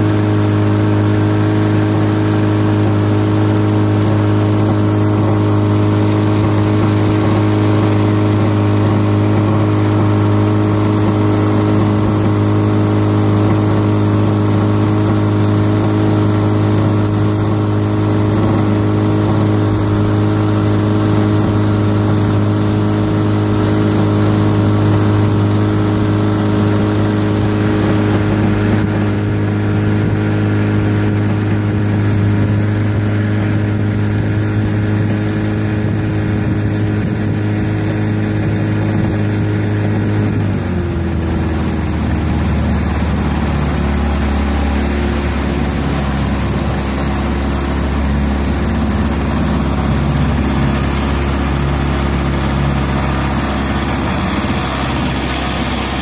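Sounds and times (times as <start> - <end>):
motorboat engine running: 0.0 - 56.0.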